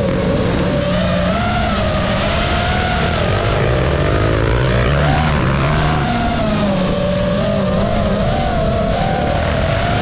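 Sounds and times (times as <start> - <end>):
dirt bike engines revving: 0.0 - 10.0
drone propellers whining: 0.0 - 10.0.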